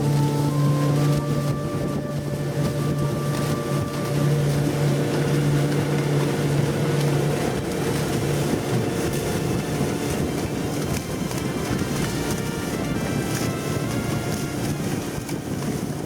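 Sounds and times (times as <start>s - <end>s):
outboard motor running: 0.0s - 16.0s
water and hull noise: 0.0s - 16.0s
wind noise: 0.0s - 16.0s.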